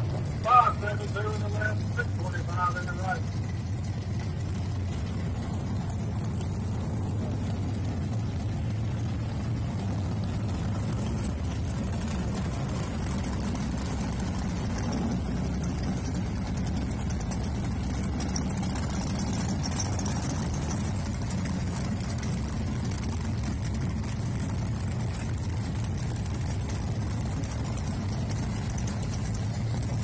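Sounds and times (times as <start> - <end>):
car engines idling: 0.0 - 30.0.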